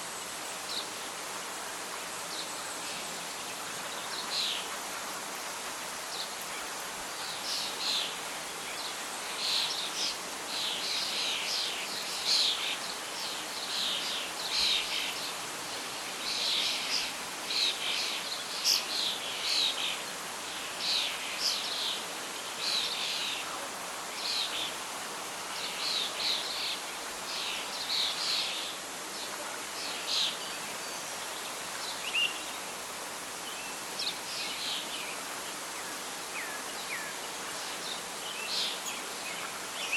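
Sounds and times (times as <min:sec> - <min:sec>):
songbirds chirping: 0:00.0 - 0:39.9
wind through leaves: 0:00.0 - 0:39.9.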